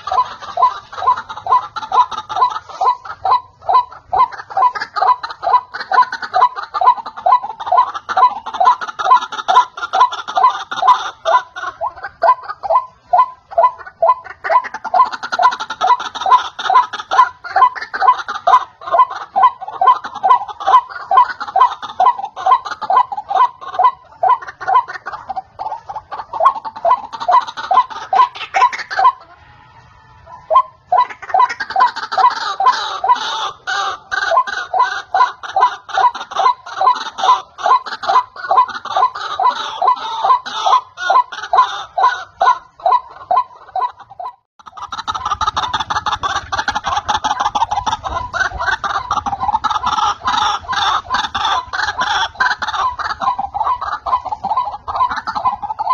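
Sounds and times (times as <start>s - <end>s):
waterhen calling: 0.0s - 55.9s.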